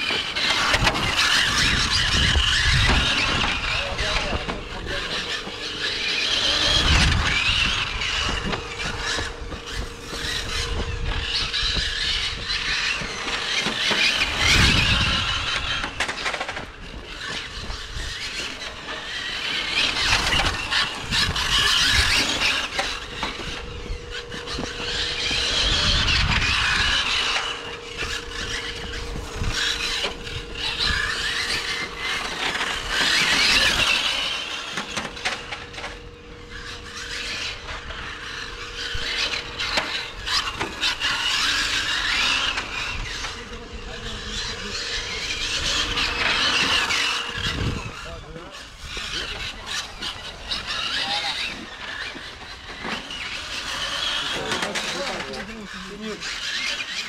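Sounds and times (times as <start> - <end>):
electric motor high-pitched whine: 0.0 - 57.0.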